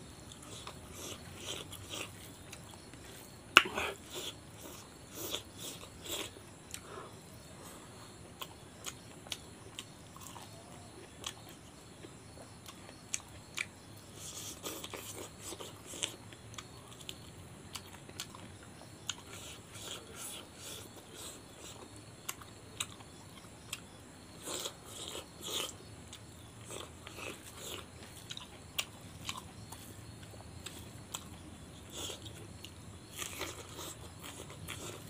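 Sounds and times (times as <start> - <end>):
person chewing and lip smacking: 3.5 - 6.9, 8.4 - 35.0.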